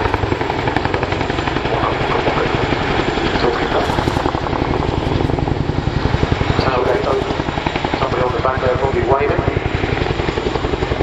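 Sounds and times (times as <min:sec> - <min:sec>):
helicopter rotors chopping: 0:00.0 - 0:11.0
helicopter turbine noise: 0:00.0 - 0:11.0.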